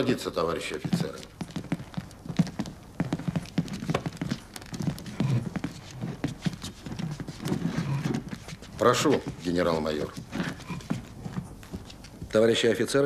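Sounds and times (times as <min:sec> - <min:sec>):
chairs scraping and knocking: 0:00.0 - 0:12.7
shuffling feet: 0:00.0 - 0:13.0.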